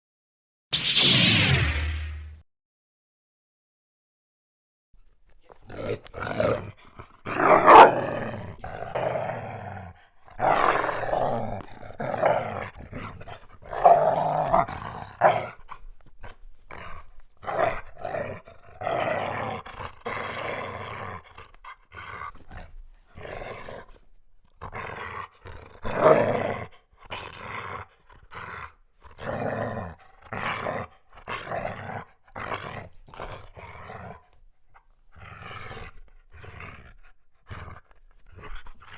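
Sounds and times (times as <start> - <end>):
dog growling: 5.6 - 15.6, 16.2 - 24.0, 24.6 - 34.4, 35.2 - 38.9.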